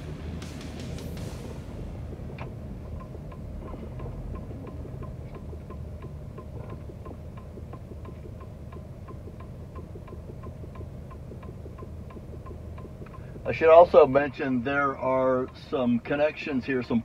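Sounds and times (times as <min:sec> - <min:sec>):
low engine and road rumble: 0:00.0 - 0:17.0
turn signal ticking: 0:00.0 - 0:17.0.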